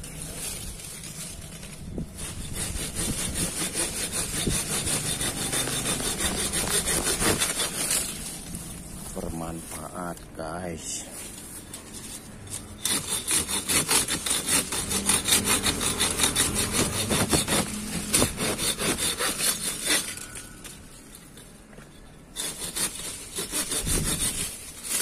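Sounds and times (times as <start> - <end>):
hand saw cutting branch: 0.0 - 20.9, 22.3 - 25.0.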